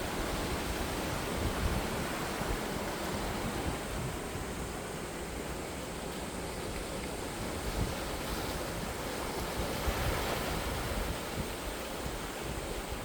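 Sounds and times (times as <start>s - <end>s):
sea waves on shore: 0.0s - 13.0s
wind on microphone: 0.0s - 13.0s.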